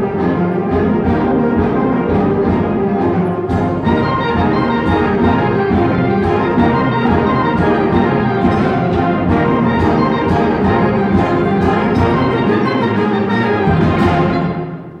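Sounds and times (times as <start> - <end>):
concert band playing: 0.0 - 15.0
drum strokes: 1.1 - 15.0.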